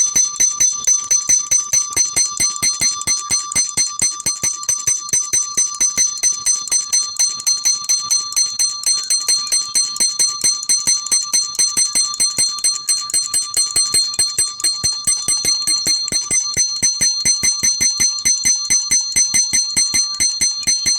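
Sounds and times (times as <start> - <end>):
mechanical alarm clock ringing: 0.0 - 20.9.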